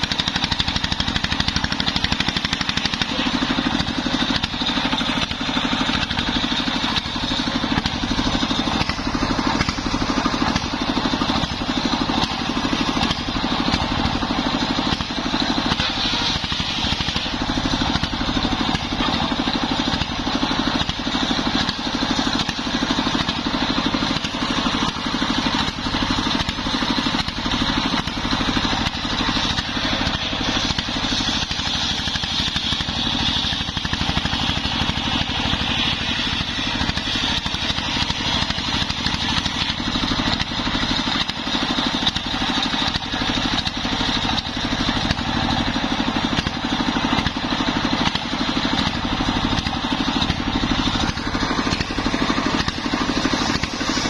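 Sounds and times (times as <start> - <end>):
circular saw whining through log: 0.0 - 54.0
diesel engine thudding: 0.0 - 54.0.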